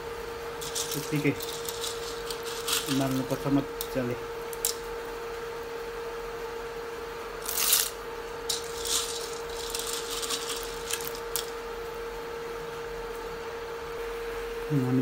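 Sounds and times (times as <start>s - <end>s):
cooktop humming: 0.0s - 15.0s.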